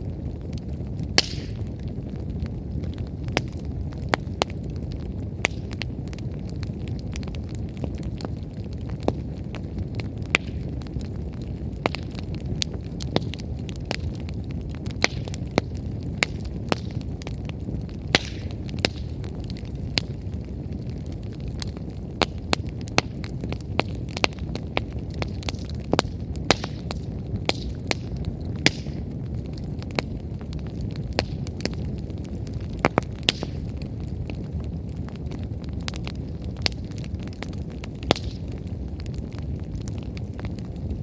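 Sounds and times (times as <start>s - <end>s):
firewood crackling and popping: 0.0s - 41.0s
low rumble of flames: 0.0s - 41.0s.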